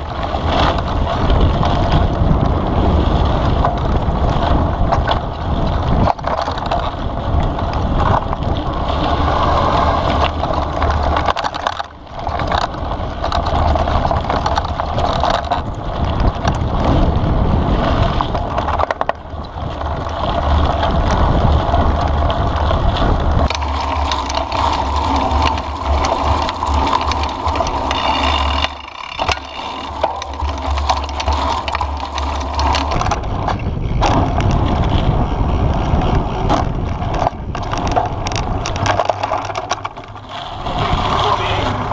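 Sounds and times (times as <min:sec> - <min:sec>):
bike rattling: 0:00.0 - 0:41.9
bike tyre noise: 0:00.0 - 0:41.9
wind rumble on microphone: 0:00.0 - 0:41.9.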